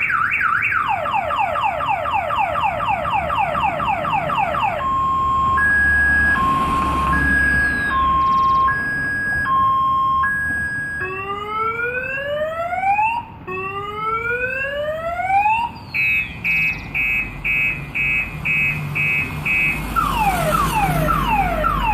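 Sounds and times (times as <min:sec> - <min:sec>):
car alarm siren: 0:00.0 - 0:21.9.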